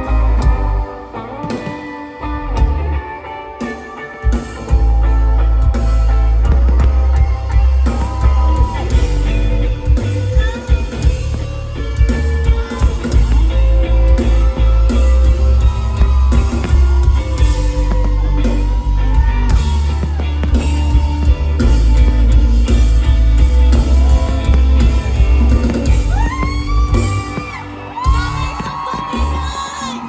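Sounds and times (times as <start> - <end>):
crowd whooping and shouting: 0.0 - 30.0
live amplified music with singing: 0.0 - 30.0.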